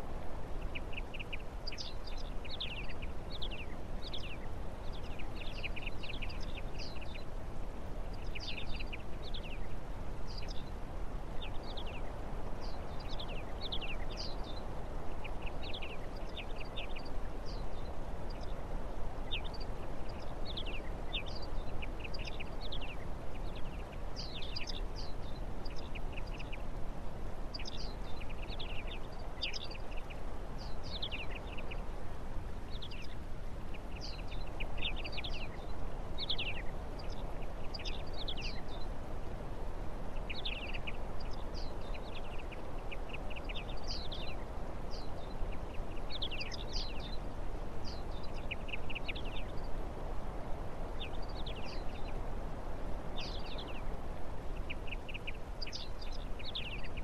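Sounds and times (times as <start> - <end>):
small songbirds chirping: 0.0 - 57.0
steady low background noise: 0.0 - 57.0.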